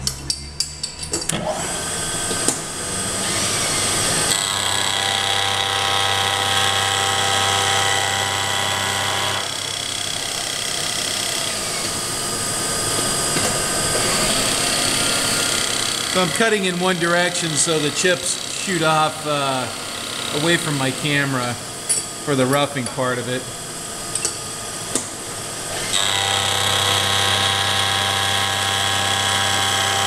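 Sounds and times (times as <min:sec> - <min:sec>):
milling machine cutting metal: 0:00.1 - 0:30.0.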